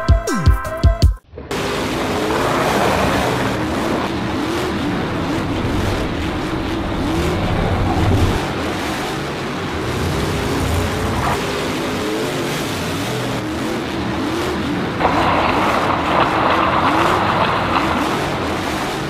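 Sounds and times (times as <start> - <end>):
race car engines revving: 1.4 - 19.0.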